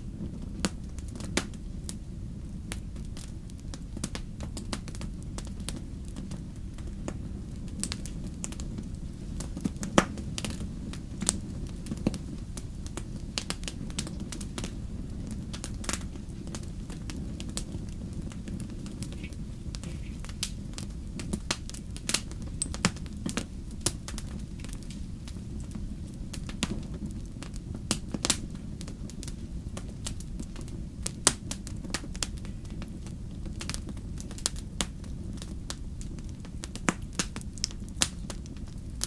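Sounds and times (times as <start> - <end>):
campfire crackling and popping: 0.0 - 39.0
low fire rumble: 0.0 - 39.0.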